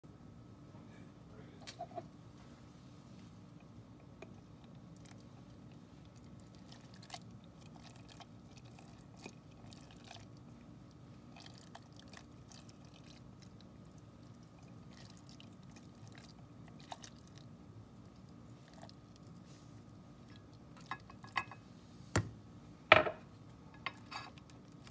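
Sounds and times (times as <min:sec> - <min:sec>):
low steady hum: 0:00.1 - 0:24.9.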